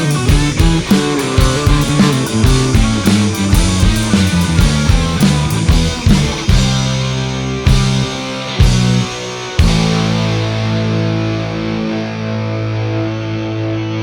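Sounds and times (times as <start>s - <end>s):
distorted guitar chord ringing: 0.0s - 14.0s
rock band playing: 0.0s - 14.0s.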